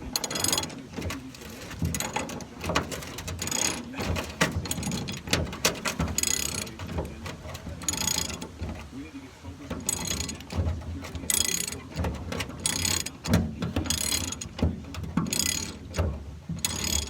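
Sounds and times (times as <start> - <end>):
socket ratchet clicking: 0.0 - 8.9, 9.6 - 17.0.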